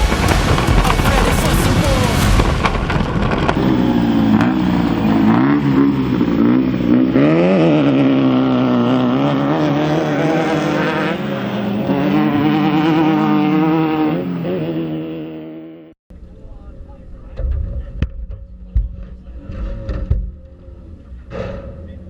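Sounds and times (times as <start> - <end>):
race vehicle engine revving: 0.0 - 22.0.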